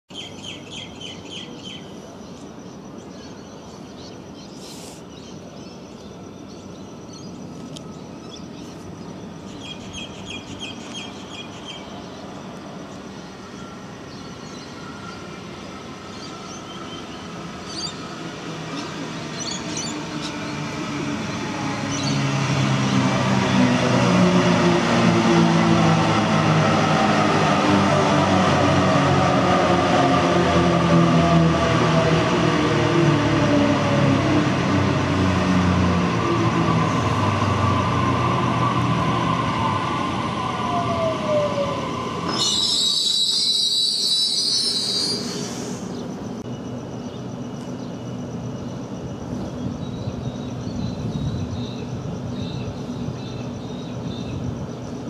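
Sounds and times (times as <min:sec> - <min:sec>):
electric train passing: 0:00.1 - 0:55.0.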